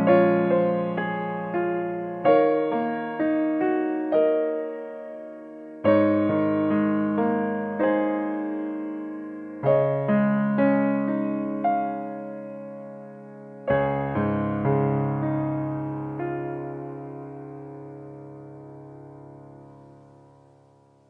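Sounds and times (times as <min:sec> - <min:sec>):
slow gentle piano piece: 0:00.0 - 0:21.0.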